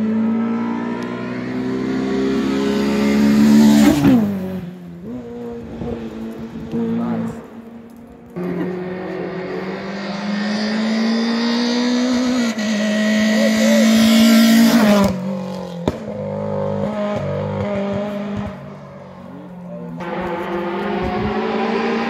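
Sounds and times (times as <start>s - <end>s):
race car engine at high revs: 0.0s - 7.5s, 8.3s - 22.0s
distant car engine: 0.0s - 22.0s.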